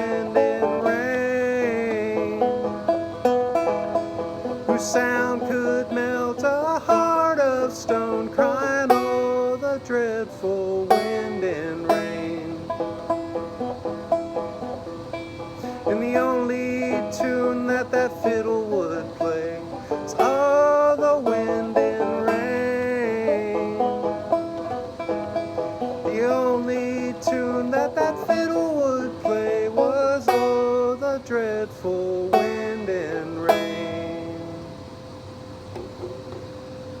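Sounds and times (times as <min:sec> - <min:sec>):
banjo playing: 0:00.0 - 0:37.0.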